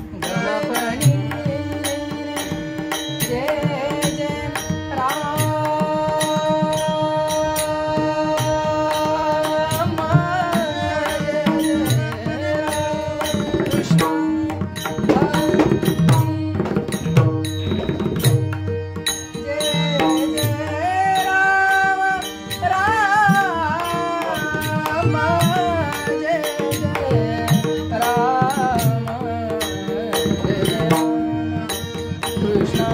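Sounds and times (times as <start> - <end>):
person singing classical style: 0.0 - 17.2, 19.4 - 32.9
hand drum rhythm: 0.0 - 32.9.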